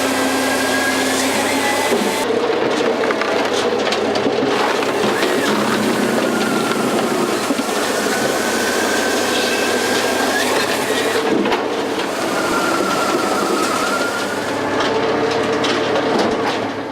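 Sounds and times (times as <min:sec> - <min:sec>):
high machine whine: 0:00.0 - 0:15.7
hydraulic log splitter running: 0:00.0 - 0:16.9.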